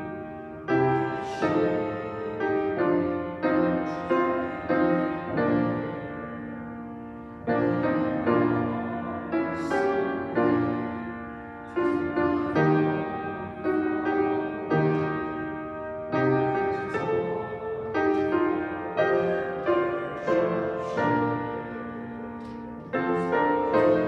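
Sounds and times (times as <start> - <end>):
piano playing slow chords: 0.0 - 24.0.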